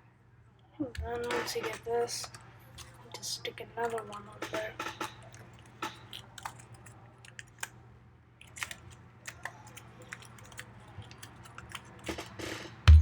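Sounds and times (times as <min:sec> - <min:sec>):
paper crinkling: 0:01.0 - 0:07.8, 0:08.4 - 0:12.8.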